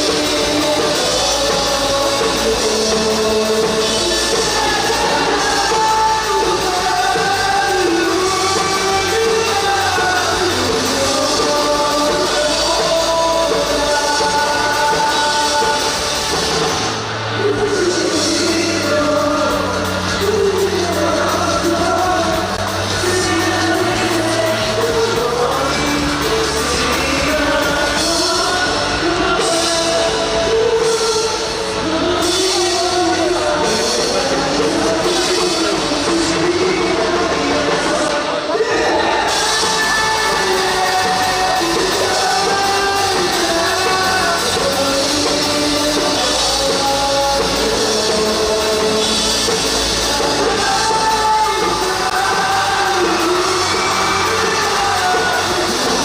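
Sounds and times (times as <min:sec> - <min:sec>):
person singing long notes: 0:00.0 - 0:56.0
rock band playing loudly: 0:00.0 - 0:56.0.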